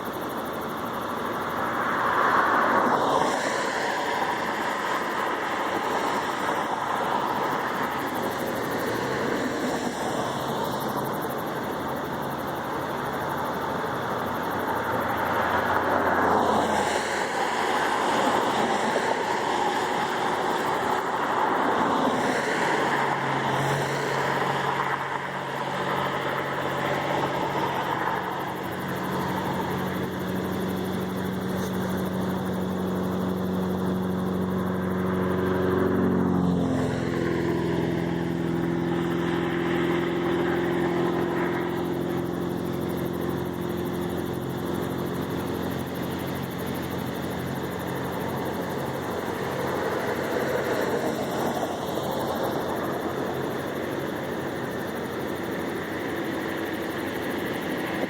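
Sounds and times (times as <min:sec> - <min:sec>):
aircraft engines running: 0:00.0 - 0:58.0.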